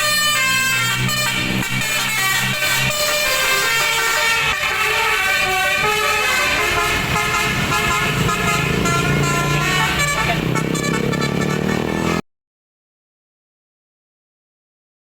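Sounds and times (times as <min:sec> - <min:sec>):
multi-trumpet air horn melody: 0:00.0 - 0:12.2.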